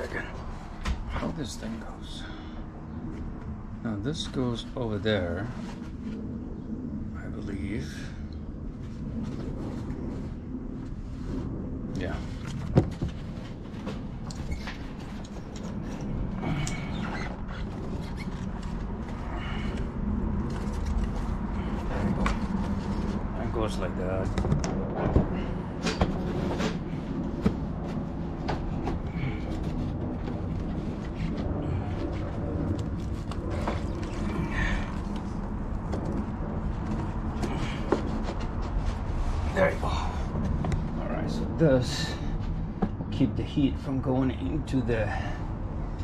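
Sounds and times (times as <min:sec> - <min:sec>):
low background rumble: 0:00.0 - 0:46.0.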